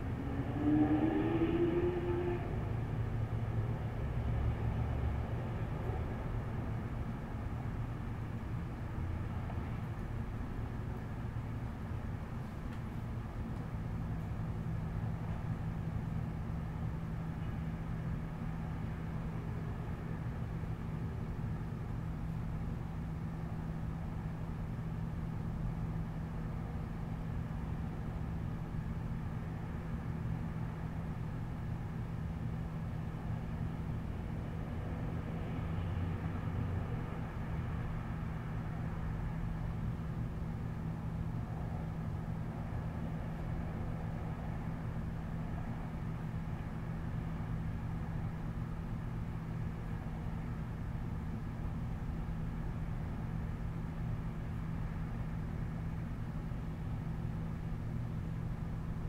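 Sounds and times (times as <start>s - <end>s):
city hum through window: 0.0s - 59.0s.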